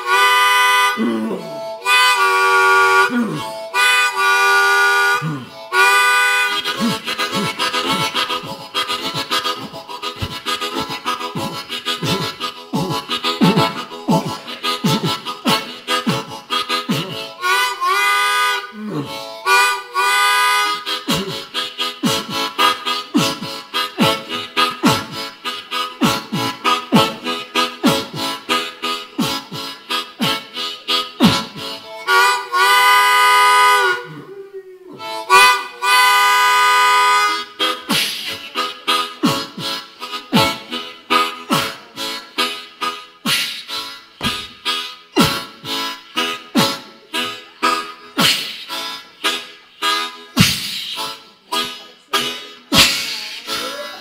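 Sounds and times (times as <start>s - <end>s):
harmonica chugging chords: 0.0s - 34.3s, 34.9s - 54.0s.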